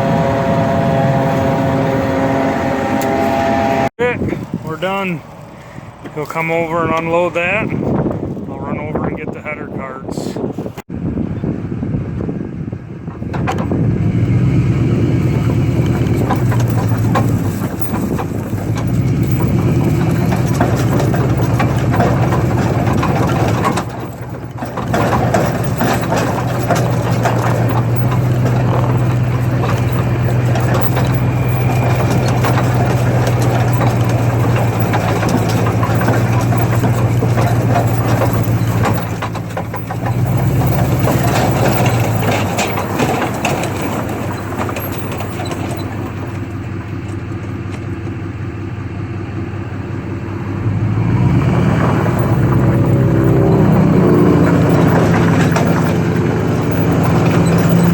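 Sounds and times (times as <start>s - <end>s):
heavy farm vehicle engine running: 0.0s - 57.9s.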